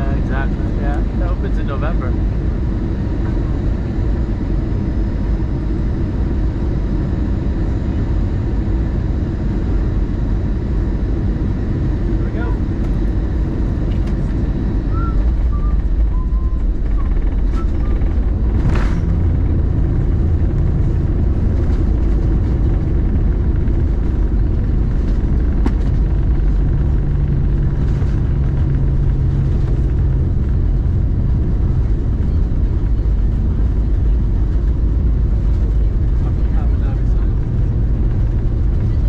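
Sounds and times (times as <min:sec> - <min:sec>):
engine and airflow rumble: 0:00.0 - 0:39.0
low steady hum: 0:00.0 - 0:39.0.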